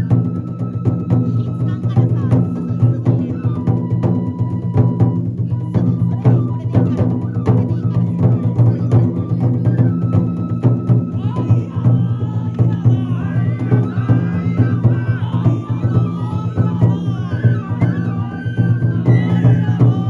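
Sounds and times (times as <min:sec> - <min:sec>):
drum beats in steady rhythm: 0:00.0 - 0:20.0.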